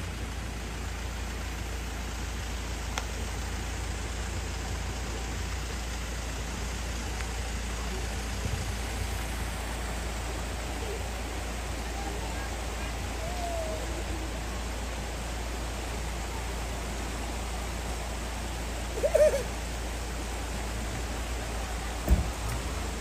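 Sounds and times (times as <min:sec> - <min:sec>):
low steady rumble: 0:00.0 - 0:23.0
rain hissing: 0:00.0 - 0:23.0.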